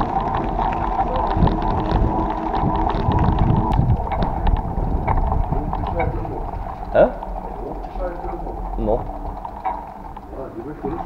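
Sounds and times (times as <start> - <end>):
bicycle tyres rolling over gravel: 0.0 - 11.0
wind rushing over microphone: 0.0 - 11.0.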